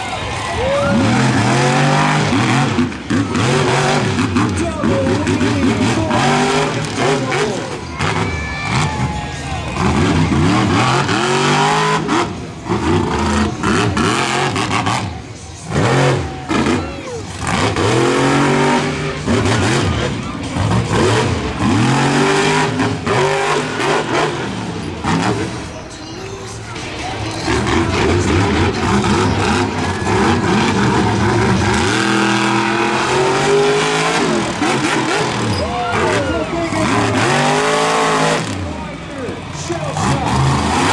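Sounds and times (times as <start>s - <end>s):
truck engine revving hard: 0.0s - 40.9s.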